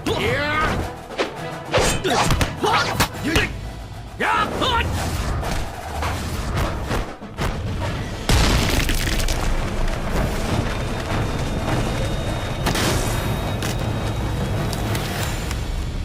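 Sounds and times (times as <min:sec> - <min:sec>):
dramatic music score: 0:00.0 - 0:16.0.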